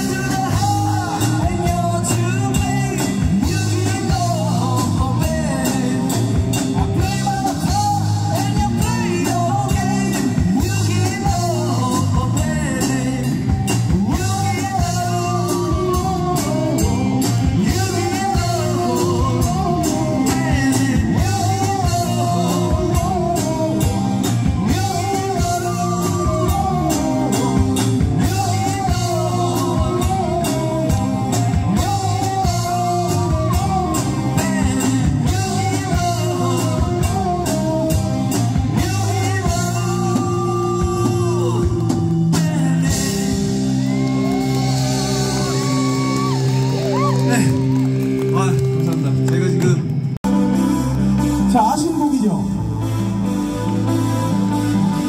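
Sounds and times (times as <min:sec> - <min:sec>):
man singing into a microphone: 0:00.0 - 0:44.4
rock band playing: 0:00.0 - 0:55.0.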